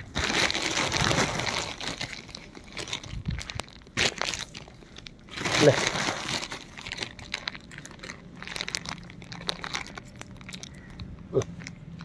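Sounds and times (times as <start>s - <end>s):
snack bag rustling and crackling: 0.0s - 12.0s.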